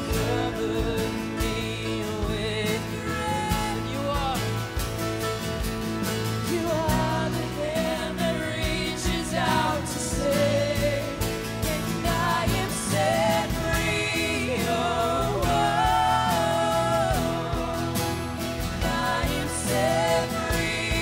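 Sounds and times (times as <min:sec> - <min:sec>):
woman singing: 0:00.0 - 0:04.6, 0:06.4 - 0:21.0
acoustic guitar: 0:00.0 - 0:21.0
band playing steady beat: 0:00.0 - 0:21.0.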